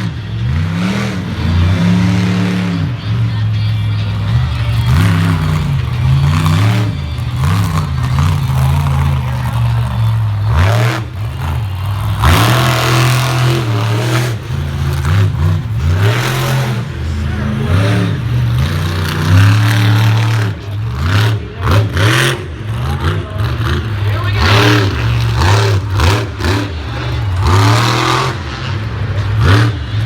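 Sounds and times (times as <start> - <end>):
monster truck engine revving: 0.0 - 30.0.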